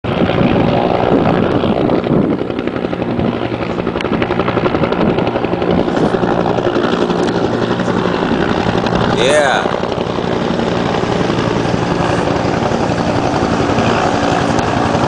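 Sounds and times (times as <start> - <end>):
helicopter engine hum: 0.0 - 15.0
helicopter rotors chopping: 0.0 - 15.0.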